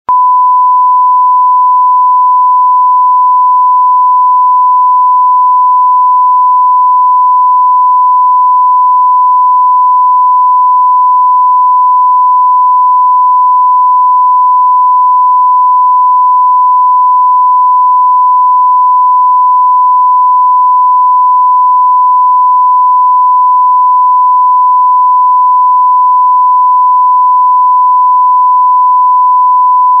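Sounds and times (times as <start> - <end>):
censor bleep tone: 0.0 - 30.0.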